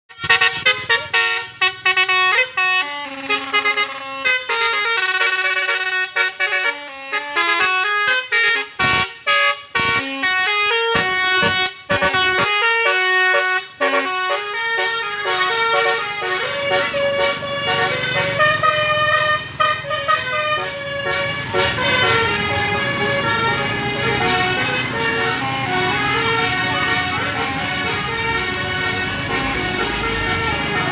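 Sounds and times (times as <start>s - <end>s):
musical air horn playing a tune: 0.1s - 30.9s.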